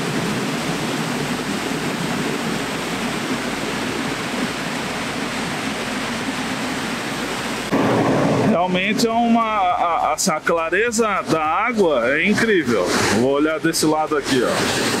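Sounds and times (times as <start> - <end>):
creek rushing over rapids: 0.0 - 15.0.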